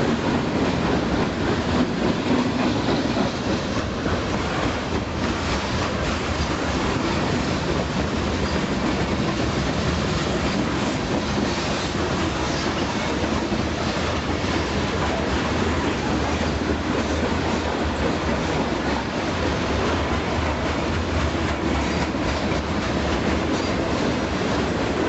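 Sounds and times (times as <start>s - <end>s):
steel wheels on rails: 0.0s - 25.0s
train wheels clattering: 0.0s - 25.0s.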